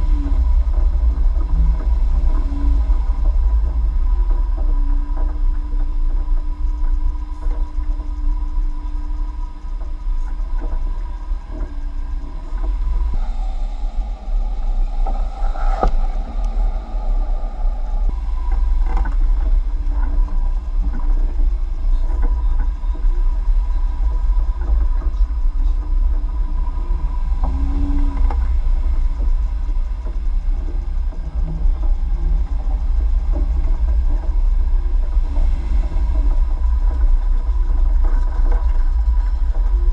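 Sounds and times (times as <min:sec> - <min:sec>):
off-road vehicle engine and tyres: 0:00.0 - 0:39.9.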